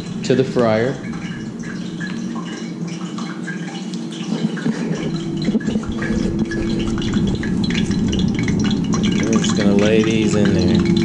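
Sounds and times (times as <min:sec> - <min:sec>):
oil crackling in frying pan: 0:00.0 - 0:11.0.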